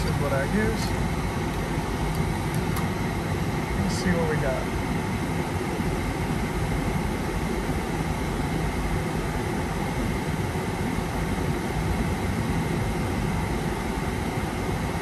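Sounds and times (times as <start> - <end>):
air rushing from vent fan: 0.0 - 15.0
engine idling hum: 0.0 - 15.0.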